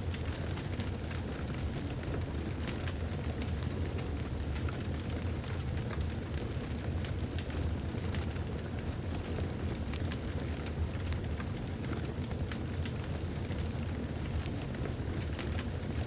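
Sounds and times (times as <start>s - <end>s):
fire flames rumbling: 0.1s - 16.0s
wood fire crackling and popping: 0.1s - 16.0s.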